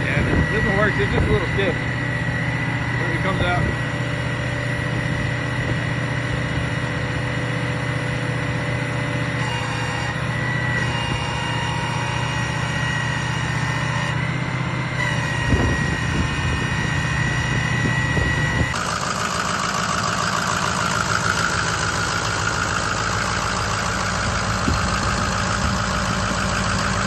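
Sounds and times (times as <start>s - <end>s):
high whine: 0.0s - 7.3s, 8.4s - 27.0s
truck engine idling: 0.0s - 27.0s.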